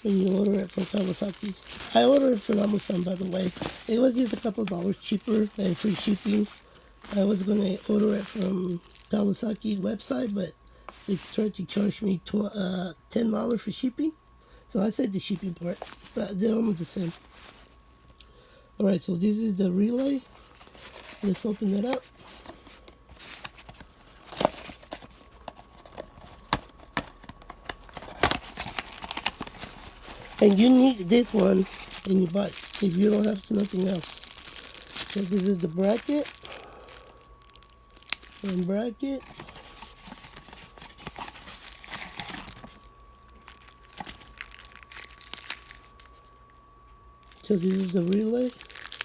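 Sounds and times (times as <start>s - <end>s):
plastic packaging crinkling: 0.0s - 12.0s, 15.2s - 17.8s, 19.4s - 49.0s.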